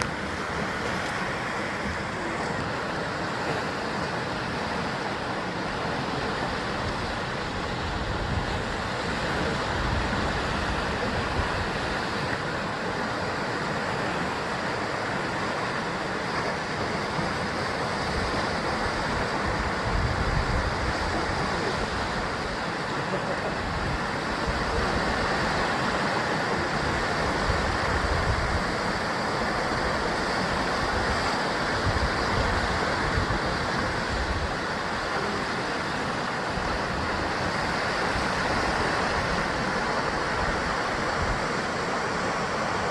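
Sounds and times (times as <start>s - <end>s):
sea waves breaking on rocks: 0.0s - 42.9s.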